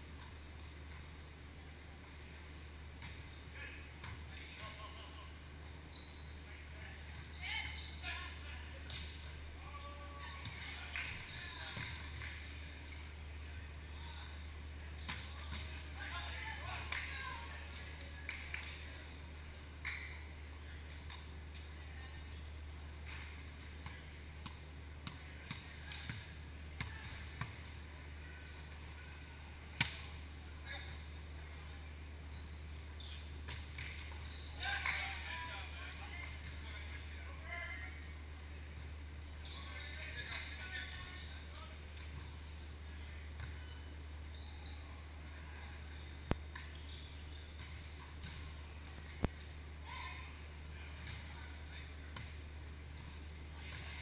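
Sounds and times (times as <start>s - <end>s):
low hum of gym hall: 0.0s - 54.0s.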